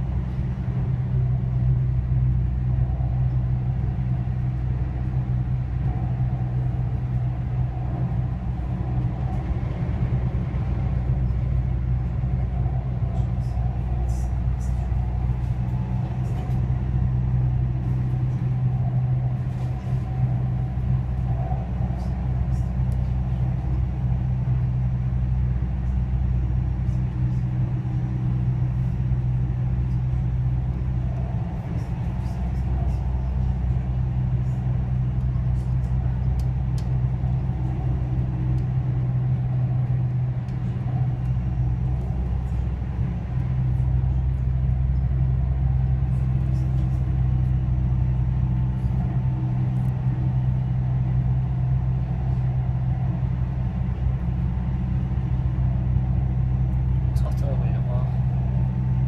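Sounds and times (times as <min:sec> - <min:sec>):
train rumbling hum from inside: 0:00.0 - 0:59.0.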